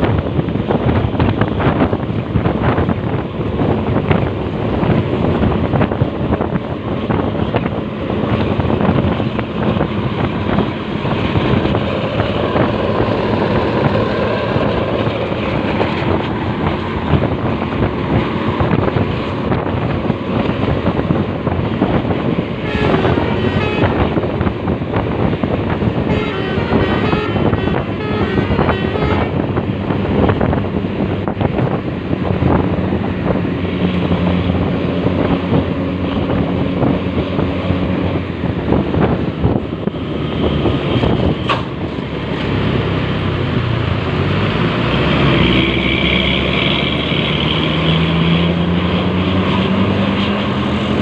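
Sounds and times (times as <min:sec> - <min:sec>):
traffic road and engine noise: 0:00.0 - 0:51.0
wind buffeting microphone: 0:00.0 - 0:51.0.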